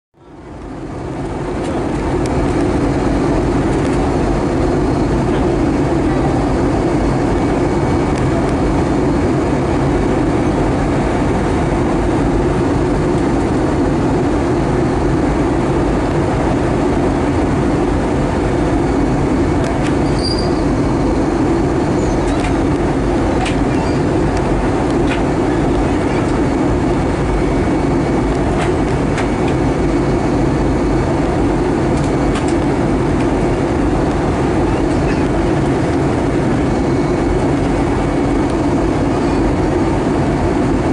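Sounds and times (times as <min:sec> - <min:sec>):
jet engine drone: 0:00.2 - 0:40.9
rushing airflow: 0:00.4 - 0:40.9.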